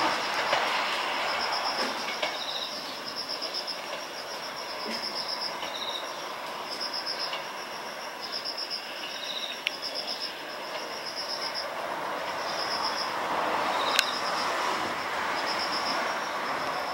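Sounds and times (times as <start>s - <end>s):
electric train running: 0.0s - 16.9s
insects chirping: 0.0s - 16.9s.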